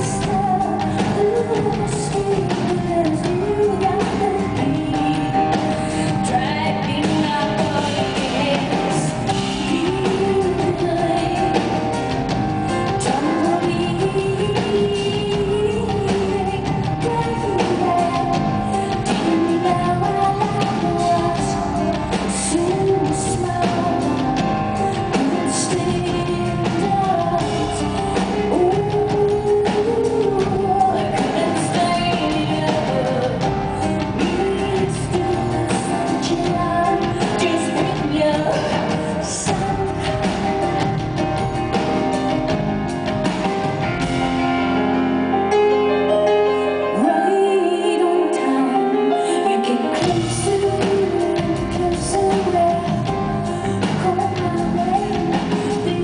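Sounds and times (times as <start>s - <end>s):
woman singing: 0.0s - 44.6s, 46.0s - 56.0s
drums: 0.0s - 56.0s
live rock band: 0.0s - 56.0s.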